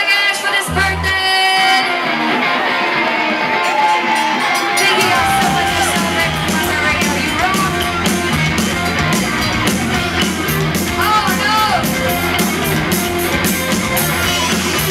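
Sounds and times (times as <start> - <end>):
voices singing and shouting: 0.0 - 14.9
live rock band playing: 0.5 - 14.9.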